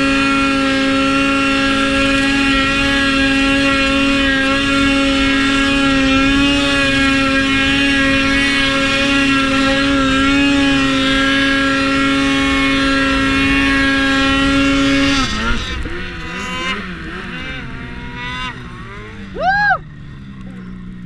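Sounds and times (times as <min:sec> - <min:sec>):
snowmobile engine revving: 0:00.0 - 0:21.0.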